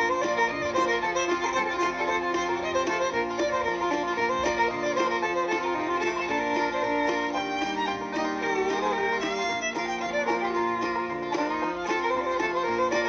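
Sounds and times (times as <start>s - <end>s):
instrumental music with strings: 0.0s - 13.0s.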